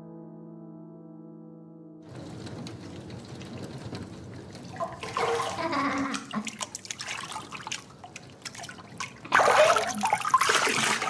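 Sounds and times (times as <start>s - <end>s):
water trickling and dripping: 2.1s - 11.0s.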